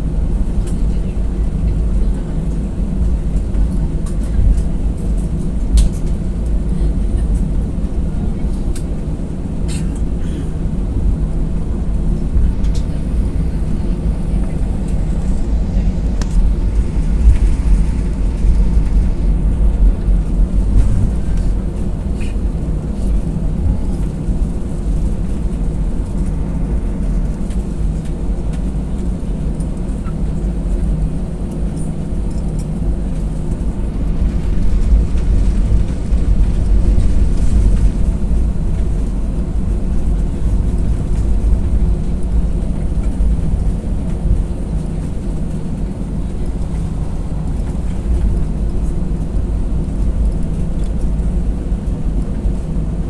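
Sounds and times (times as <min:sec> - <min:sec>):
aircraft engines rumbling: 0:00.0 - 0:53.0.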